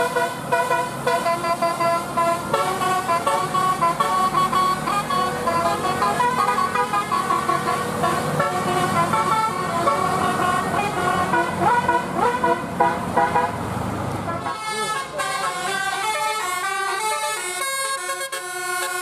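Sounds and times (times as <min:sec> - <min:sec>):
musical bus horn melody: 0:00.0 - 0:13.6, 0:14.2 - 0:19.0.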